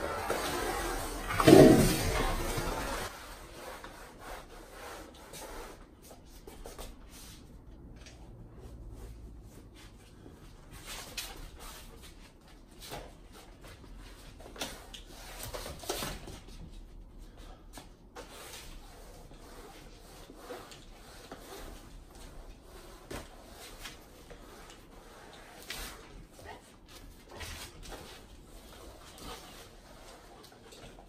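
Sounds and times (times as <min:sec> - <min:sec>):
mop scraping across floor: 0:00.0 - 0:31.0.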